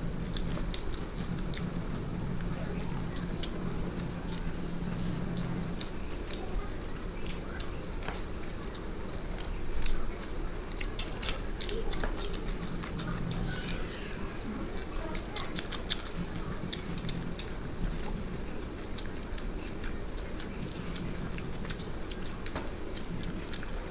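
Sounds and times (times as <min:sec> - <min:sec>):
wet chewing and mouth smacks: 0:00.0 - 0:13.9, 0:14.5 - 0:23.9
low steady hum: 0:00.0 - 0:23.9.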